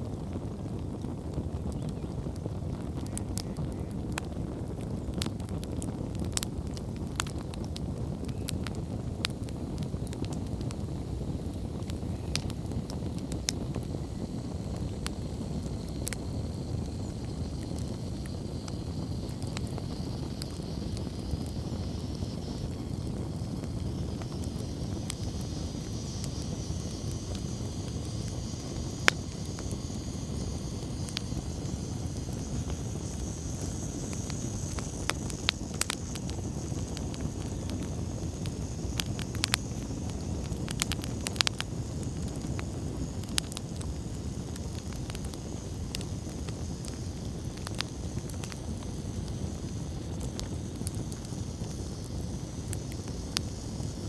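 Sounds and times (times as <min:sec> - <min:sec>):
campfire low rumble: 0:00.0 - 0:54.0
fire crackling and popping: 0:00.0 - 0:54.0.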